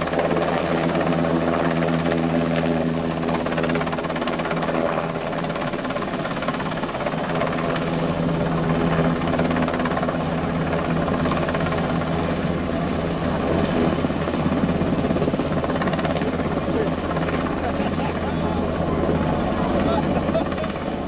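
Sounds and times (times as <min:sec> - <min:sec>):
helicopter rotor and engines: 0:00.0 - 0:21.0.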